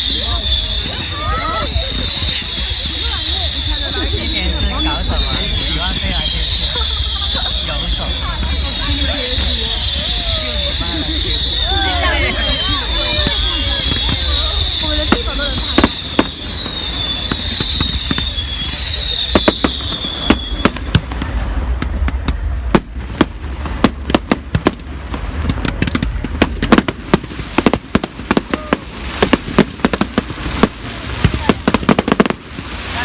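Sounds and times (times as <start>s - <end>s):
firework bangs and crackles: 0.0s - 33.0s
whistling rockets: 0.0s - 33.0s.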